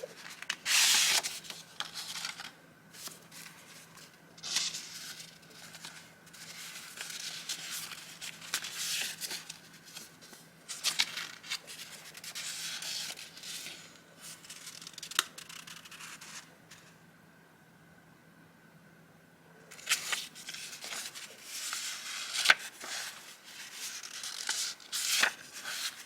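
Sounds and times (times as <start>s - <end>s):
paper rustling and crinkling: 0.0s - 16.9s, 19.7s - 26.0s.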